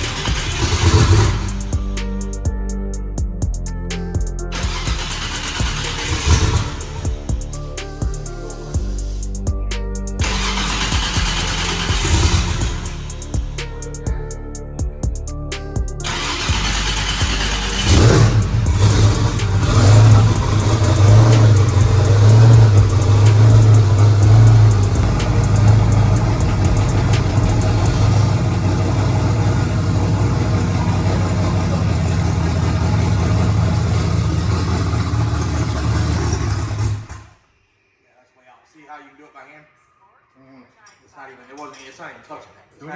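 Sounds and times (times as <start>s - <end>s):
car engine starting and idling: 0.0s - 9.4s, 10.0s - 14.2s, 15.8s - 37.4s.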